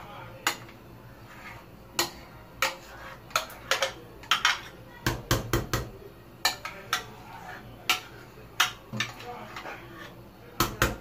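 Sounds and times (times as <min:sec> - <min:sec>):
metal spoon scraping and tapping a pot: 0:00.4 - 0:11.0.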